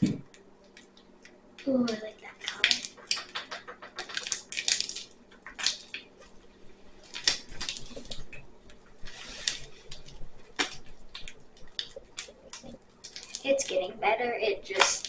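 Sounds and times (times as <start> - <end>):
slime squelching by hand: 0.0 - 15.0.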